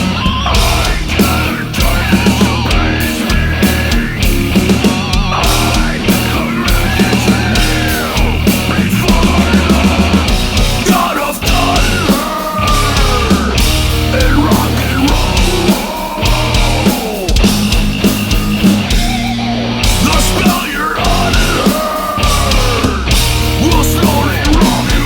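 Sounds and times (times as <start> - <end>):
bending lead guitar line: 0.0 - 25.0
heavy metal band playing: 0.0 - 25.0.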